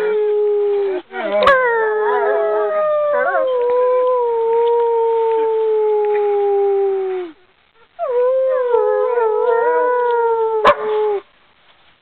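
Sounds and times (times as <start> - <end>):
wolfdogs howling: 0.0 - 7.4, 8.0 - 11.2.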